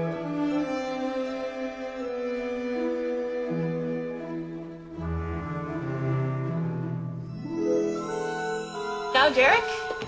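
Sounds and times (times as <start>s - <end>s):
slow sad string music: 0.0s - 10.0s.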